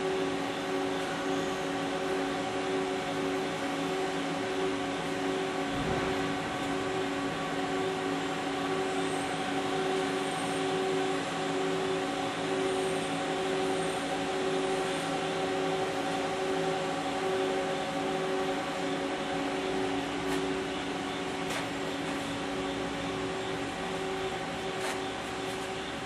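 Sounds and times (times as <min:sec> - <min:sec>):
lathe machine hum: 0:00.0 - 0:26.0
pulsing machine tone: 0:00.0 - 0:26.0.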